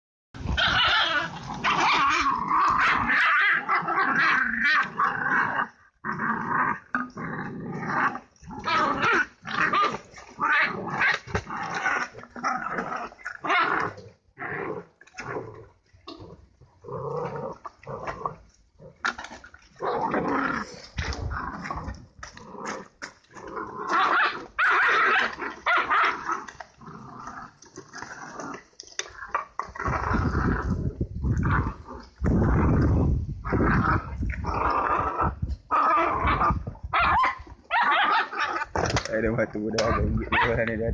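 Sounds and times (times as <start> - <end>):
dogs growling and snarling: 0.4 - 40.9.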